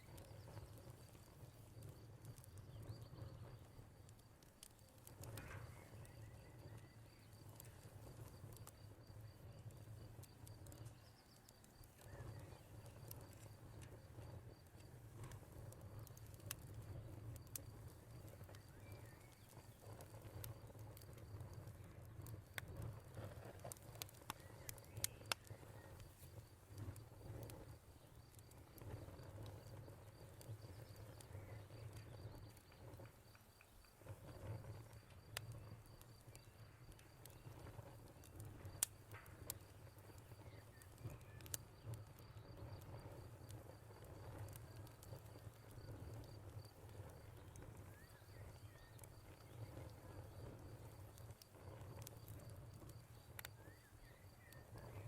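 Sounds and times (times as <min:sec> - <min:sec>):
fire crackling: 0:00.0 - 0:55.0
cricket chirping: 0:04.8 - 0:55.0.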